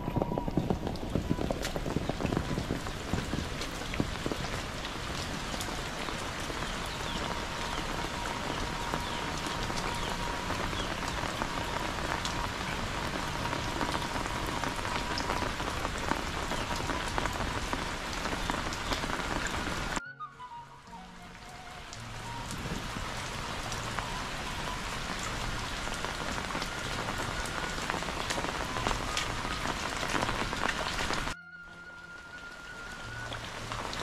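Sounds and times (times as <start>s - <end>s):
close raindrop hits: 0.0s - 20.0s, 21.8s - 34.0s
heavy rain: 0.0s - 34.0s.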